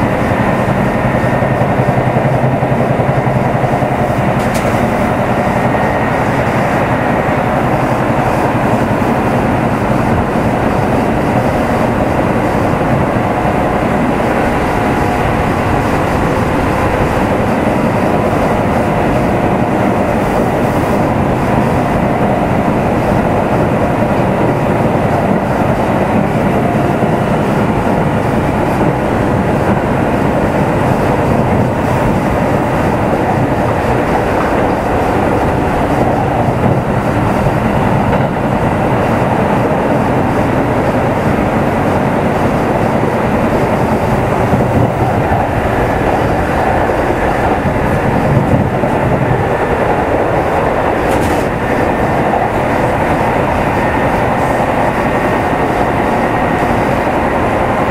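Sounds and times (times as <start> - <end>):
wheels running on rails: 0.0 - 57.9.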